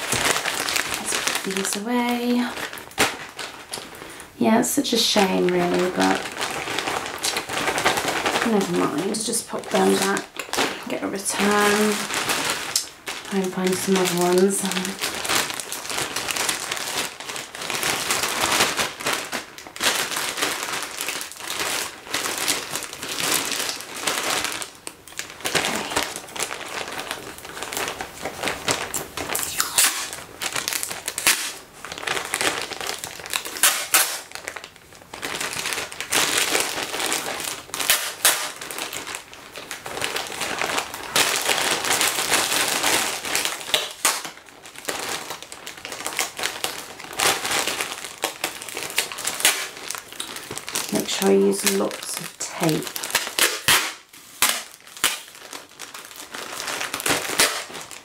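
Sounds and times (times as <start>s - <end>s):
packing tape pulled off roll: 0.0s - 4.2s, 5.3s - 58.0s
plastic mailer bag crinkling: 0.0s - 58.0s.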